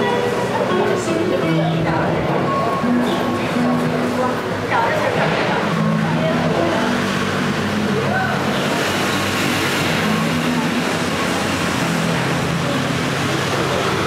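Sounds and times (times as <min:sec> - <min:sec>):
loud rushing noise: 0:00.0 - 0:14.0.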